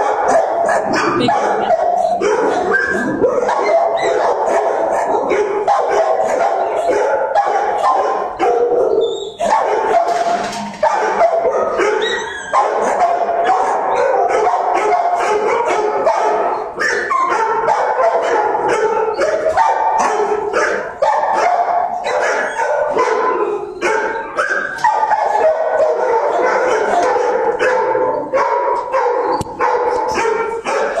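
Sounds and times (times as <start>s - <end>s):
many dogs barking: 0.0s - 31.0s.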